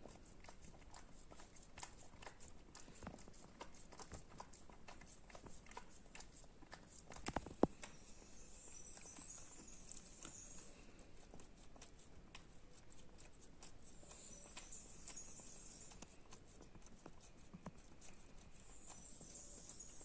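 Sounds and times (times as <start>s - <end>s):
dog licking and lapping: 0.0s - 20.0s.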